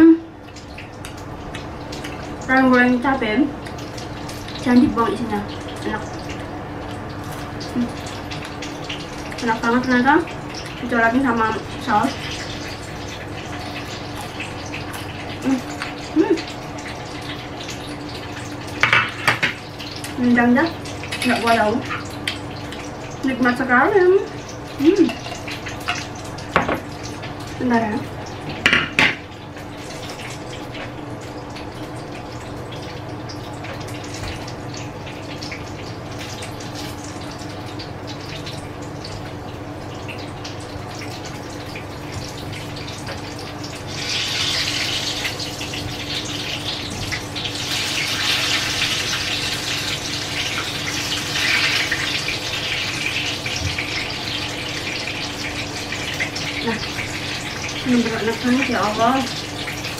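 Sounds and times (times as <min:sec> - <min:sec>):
low electrical hum: 0:00.0 - 0:59.9
tap running water: 0:00.4 - 0:59.9.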